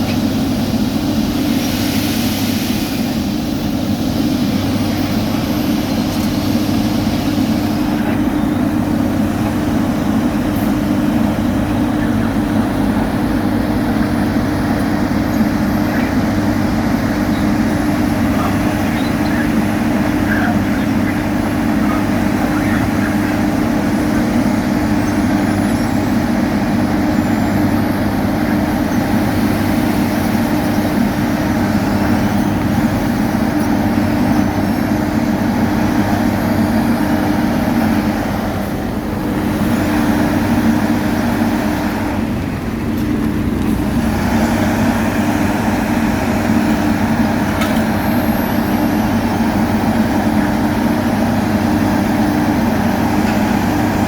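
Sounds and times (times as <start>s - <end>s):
diesel machinery engine running: 0.0s - 54.0s.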